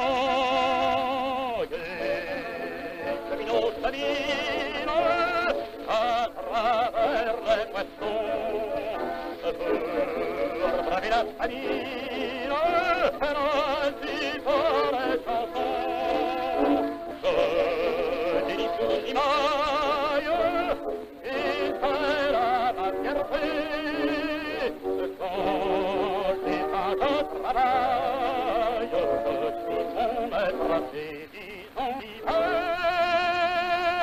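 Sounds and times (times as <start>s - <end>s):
instrumental accompaniment: 0.0s - 34.0s
man singing with vibrato: 0.0s - 34.0s.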